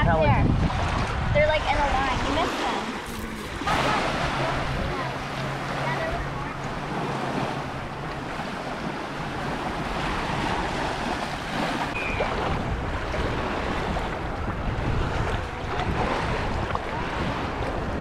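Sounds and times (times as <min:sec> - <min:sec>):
surf washing in shallows: 0:00.0 - 0:18.0
wind buffeting microphone: 0:00.0 - 0:18.0.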